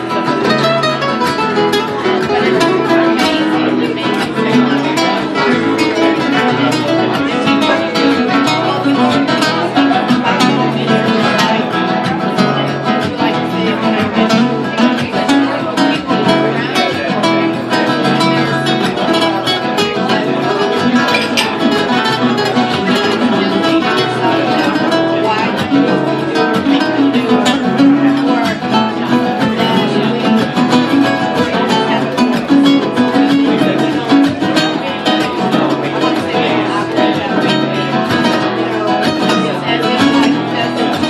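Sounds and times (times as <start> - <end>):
flamenco guitar: 0.0 - 41.0.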